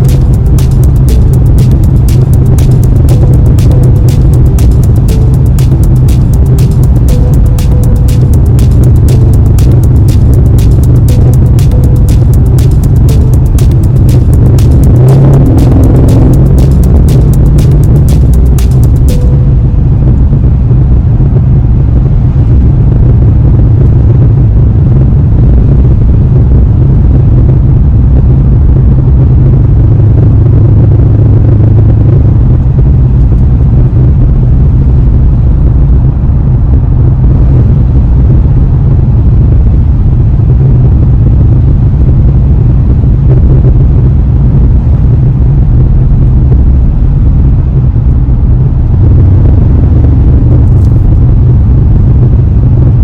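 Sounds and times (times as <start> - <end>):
car engine deep rumble: 0.0 - 53.0.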